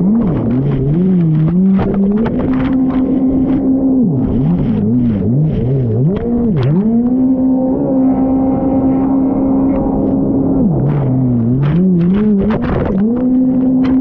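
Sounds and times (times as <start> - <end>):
jet ski engine revving: 0.0 - 14.0.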